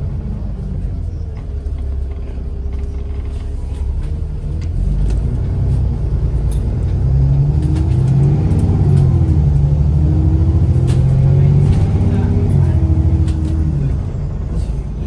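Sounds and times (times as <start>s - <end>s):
bus engine rumble: 0.0s - 15.0s
drivetrain whine: 0.0s - 15.0s.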